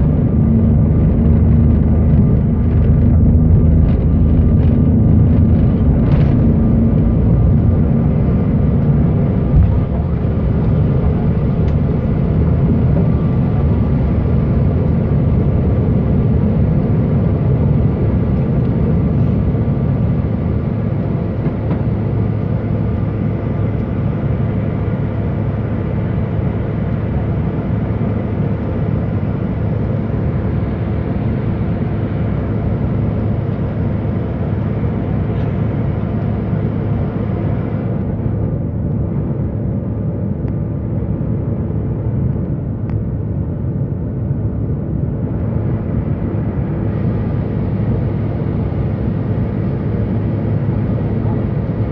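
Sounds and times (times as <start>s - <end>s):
jet engine roar in cabin: 0.0s - 51.9s.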